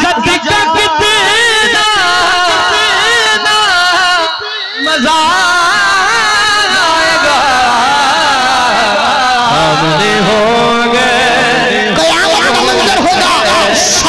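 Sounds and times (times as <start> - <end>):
man chanting a cappella: 0.0 - 14.0.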